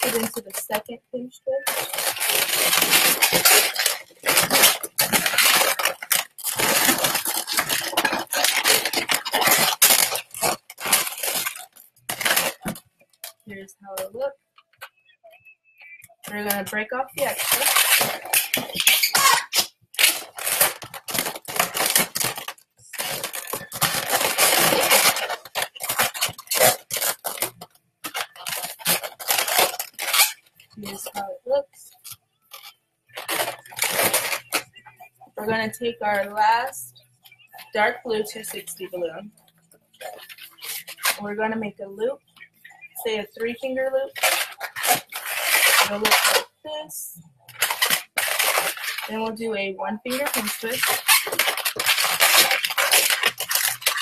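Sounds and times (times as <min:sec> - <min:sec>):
balloons rubbing and squeaking: 0:00.0 - 0:54.0.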